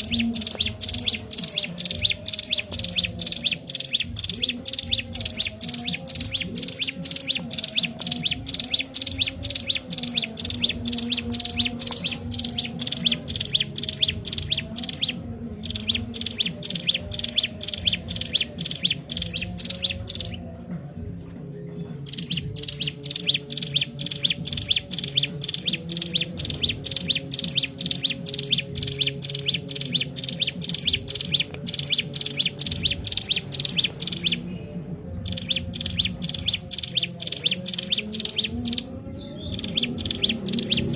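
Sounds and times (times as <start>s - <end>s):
bird singing high chirps: 0.0s - 40.9s.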